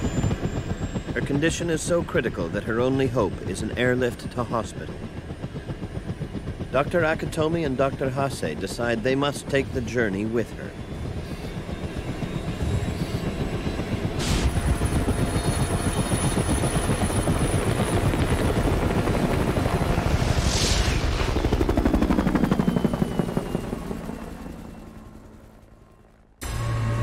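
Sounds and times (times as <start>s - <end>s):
helicopter rotor chopping: 0.0s - 27.0s.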